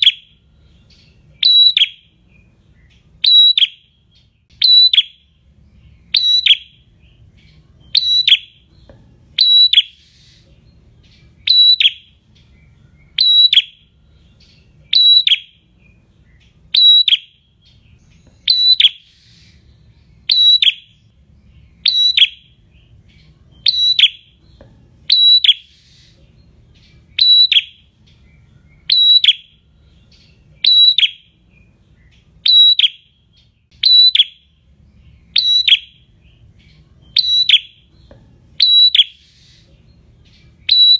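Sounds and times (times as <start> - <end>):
caged bird singing sharp calls: 0.0 - 40.9.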